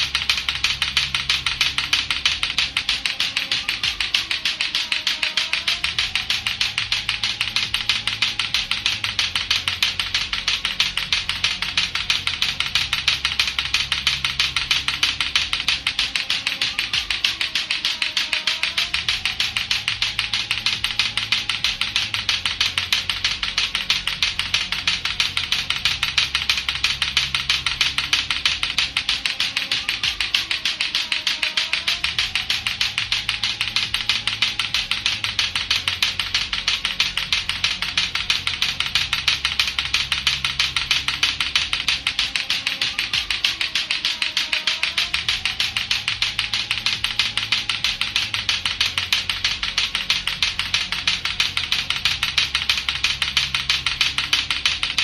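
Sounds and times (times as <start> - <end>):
clacker balls knocking together: 0.0 - 55.0
low background music: 0.0 - 55.0.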